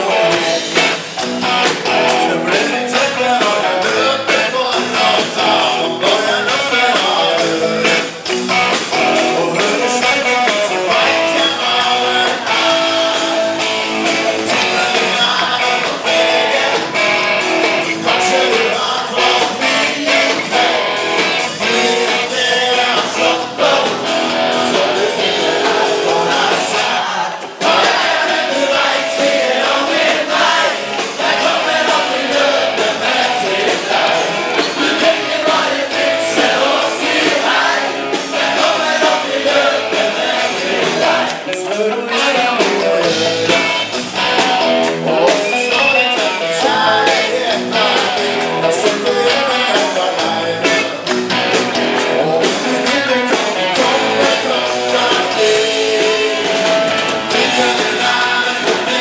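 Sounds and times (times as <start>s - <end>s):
male singers: 0.0s - 1.0s, 1.9s - 8.2s, 9.0s - 13.7s, 14.4s - 17.0s, 17.9s - 51.1s, 52.0s - 59.0s
electric guitar: 0.0s - 59.0s
steady drum beat: 0.0s - 59.0s.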